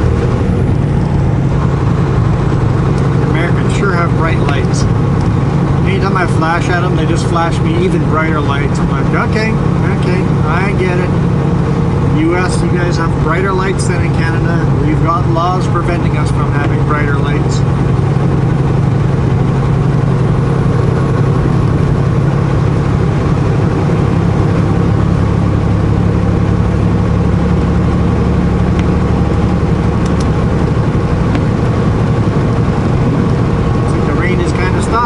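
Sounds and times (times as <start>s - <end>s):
diesel truck engine running: 0.0s - 35.0s
road noise: 0.0s - 35.0s.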